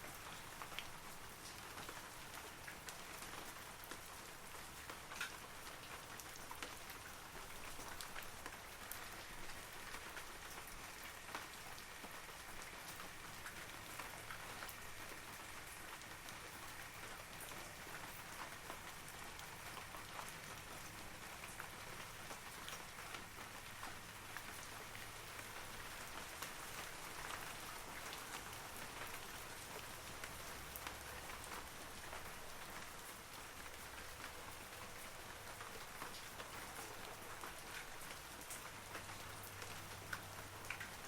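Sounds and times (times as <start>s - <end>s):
rain falling on foliage: 0.0s - 41.0s.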